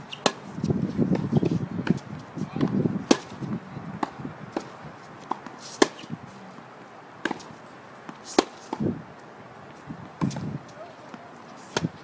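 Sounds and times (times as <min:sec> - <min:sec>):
tennis balls struck with rackets: 0:00.1 - 0:00.5, 0:01.1 - 0:08.9, 0:10.0 - 0:12.0
tennis balls bouncing on hard court: 0:00.1 - 0:08.9, 0:09.7 - 0:12.0.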